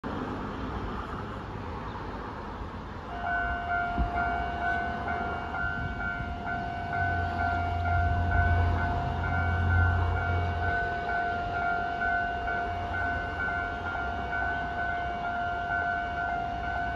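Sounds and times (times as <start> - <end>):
level crossing warning ringing: 3.1 - 16.9.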